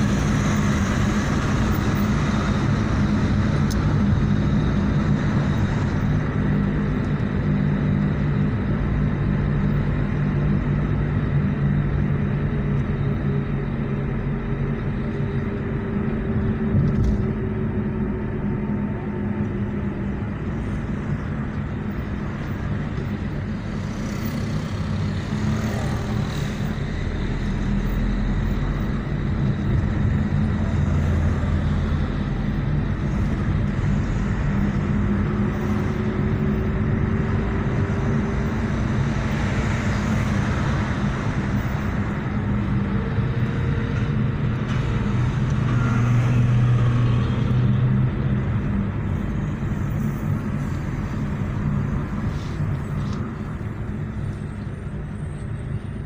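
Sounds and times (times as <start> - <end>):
car engine hum: 0.0 - 56.0
tyre and road noise: 0.0 - 56.0.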